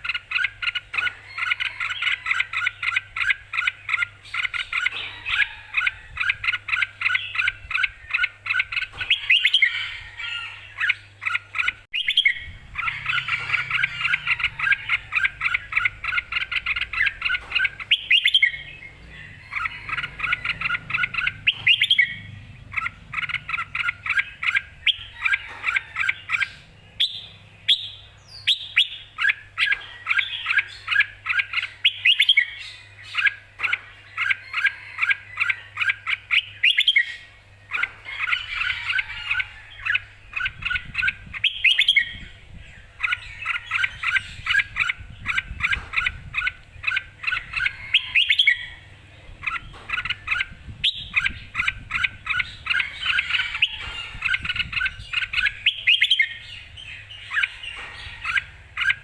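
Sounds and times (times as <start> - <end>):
bulbul singing: 0.0 - 59.0.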